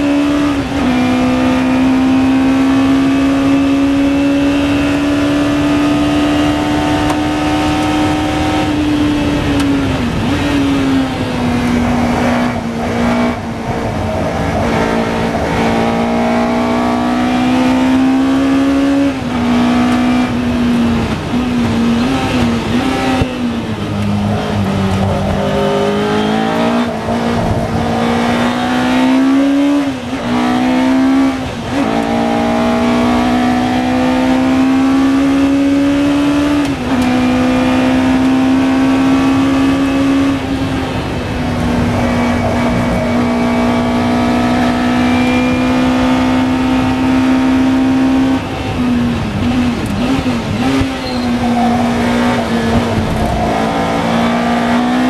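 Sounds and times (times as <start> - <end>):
racing car engine with gear changes: 0.0 - 55.0.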